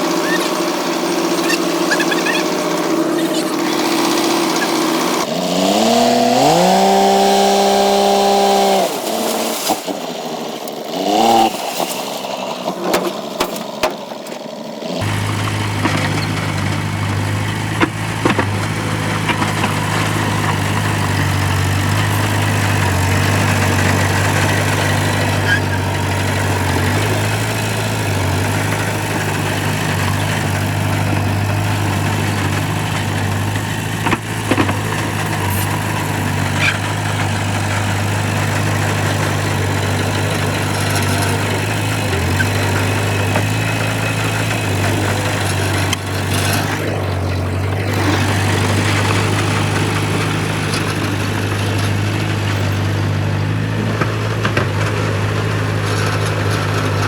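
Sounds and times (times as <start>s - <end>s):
heavy diesel machinery humming: 0.0s - 57.0s.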